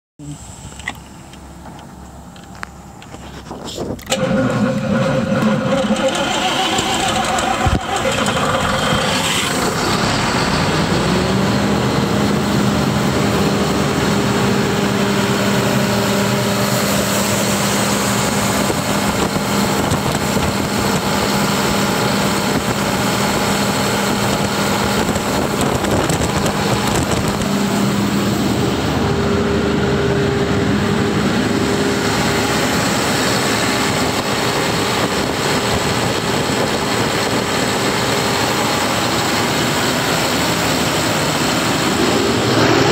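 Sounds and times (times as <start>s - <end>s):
diesel air compressor running: 2.2s - 42.9s.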